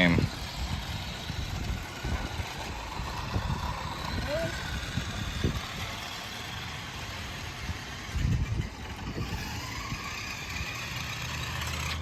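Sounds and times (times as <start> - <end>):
steady outdoor noise: 0.0 - 12.0
toy car electric motor whining: 0.0 - 12.0.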